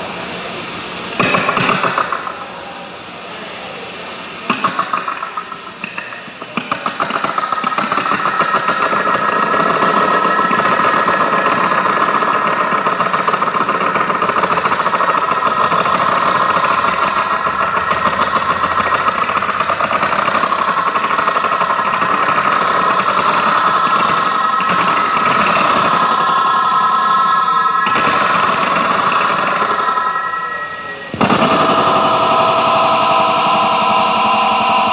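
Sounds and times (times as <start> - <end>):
throbbing electronic drone: 4.4 - 34.9.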